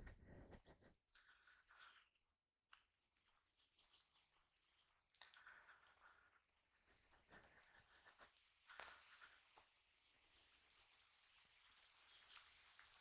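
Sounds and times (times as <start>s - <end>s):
faint bird chirps: 0.0s - 3.0s, 3.6s - 13.0s.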